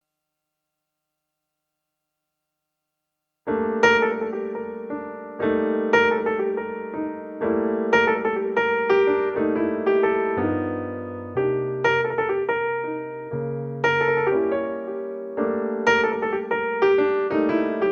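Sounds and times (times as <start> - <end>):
piano music: 3.5 - 17.9.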